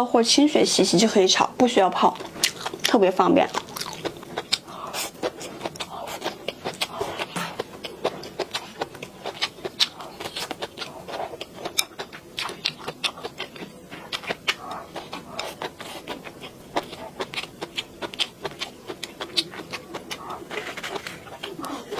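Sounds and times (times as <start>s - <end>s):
chewing and crunching food: 0.4s - 21.9s.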